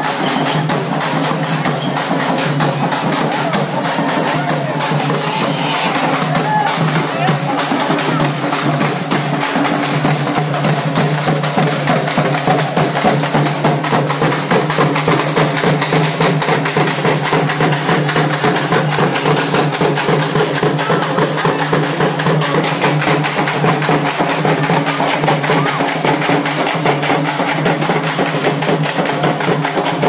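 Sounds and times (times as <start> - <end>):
frame drums beaten with sticks: 0.0 - 30.0.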